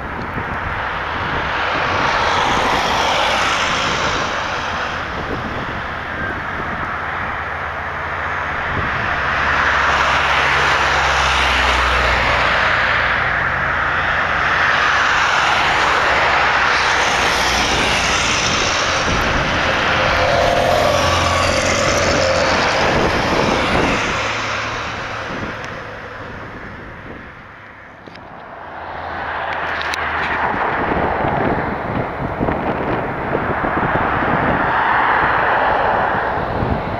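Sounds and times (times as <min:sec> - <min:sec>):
aircraft engines passing: 0:00.0 - 0:36.9.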